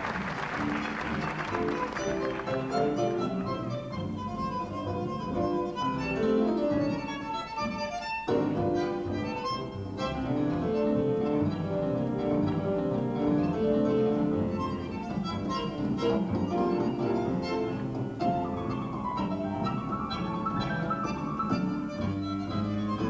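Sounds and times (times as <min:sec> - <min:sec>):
tango orchestra playing: 0:00.0 - 0:23.0.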